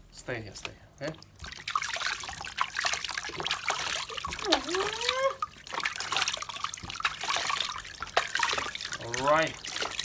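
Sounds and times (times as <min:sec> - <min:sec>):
water trickling and splashing: 0:00.3 - 0:10.0.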